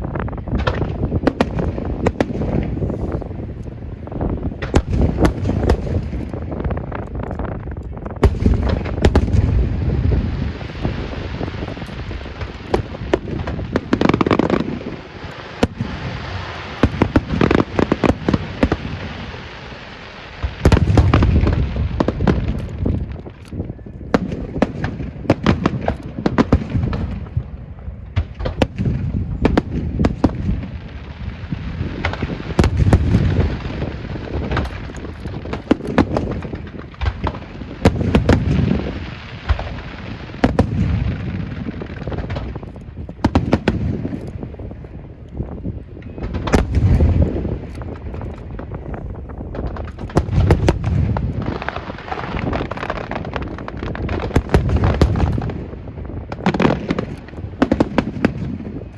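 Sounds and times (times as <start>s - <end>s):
deep firework booms: 0.0s - 58.9s
fireworks cracking and popping: 0.0s - 58.9s.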